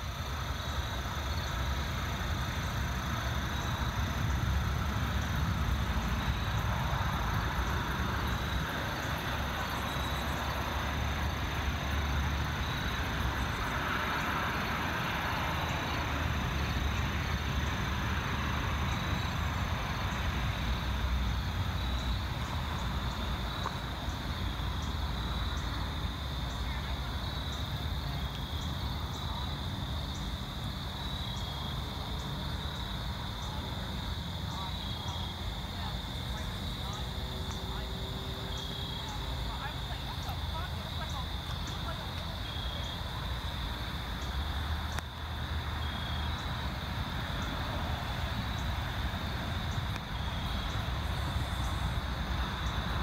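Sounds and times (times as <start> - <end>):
low rumble and hiss: 0.0 - 53.0.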